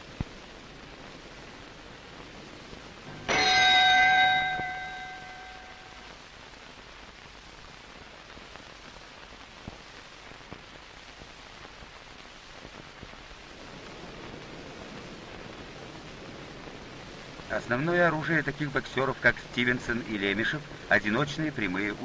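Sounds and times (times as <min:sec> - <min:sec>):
film soundtrack hiss: 0:00.0 - 0:22.0.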